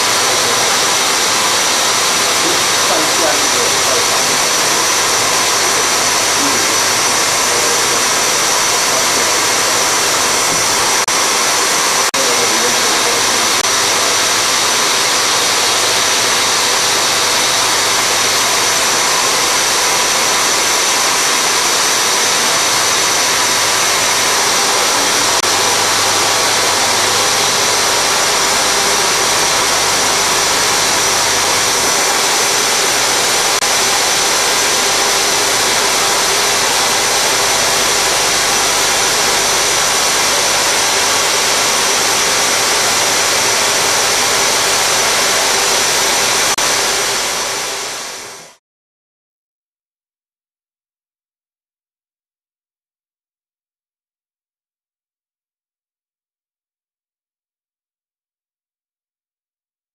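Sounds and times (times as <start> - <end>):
compressed air jet hissing: 0.0 - 48.5
machine spindle running: 0.0 - 48.6.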